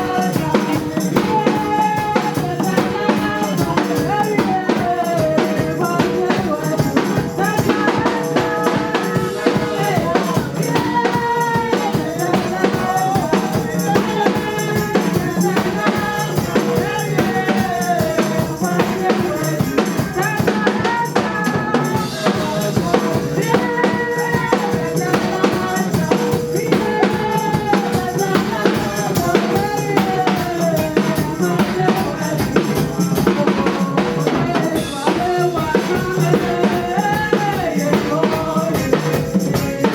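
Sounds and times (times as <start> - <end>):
bass drum and snare beat: 0.0 - 39.9
live praise music: 0.0 - 39.9.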